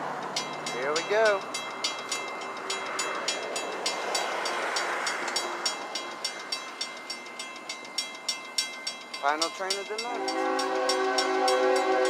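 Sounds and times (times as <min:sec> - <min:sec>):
freight train approaching: 0:00.0 - 0:12.0
railroad crossing bell ringing: 0:00.0 - 0:12.0.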